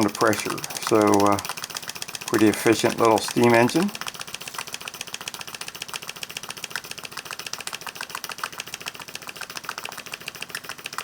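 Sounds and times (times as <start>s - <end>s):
model steam engine ticking: 0.0s - 11.0s.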